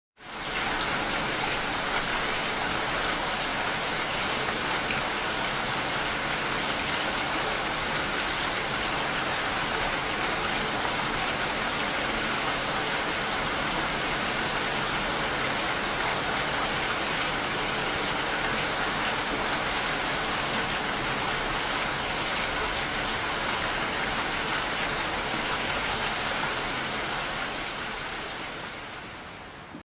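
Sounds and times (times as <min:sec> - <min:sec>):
steady rain falling: 0:00.2 - 0:29.8.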